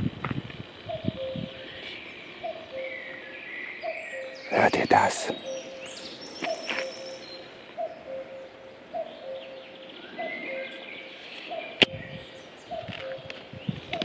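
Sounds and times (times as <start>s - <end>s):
songbirds twittering: 0.6s - 14.0s
cuckoo calling: 0.8s - 14.0s.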